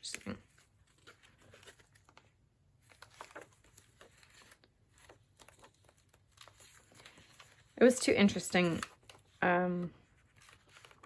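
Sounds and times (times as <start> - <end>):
book pages rustling: 0.0 - 9.4, 10.0 - 11.0
soft paper crinkles: 0.0 - 11.0.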